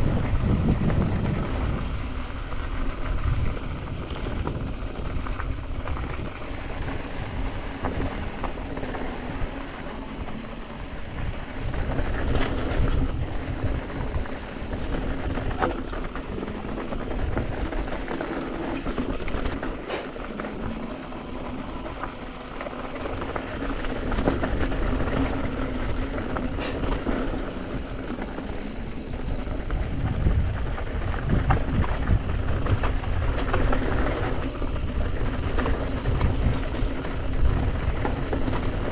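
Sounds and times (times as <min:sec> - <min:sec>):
bike tyres crunching on gravel: 0:00.0 - 0:38.9
wind rushing over microphone: 0:00.0 - 0:38.9.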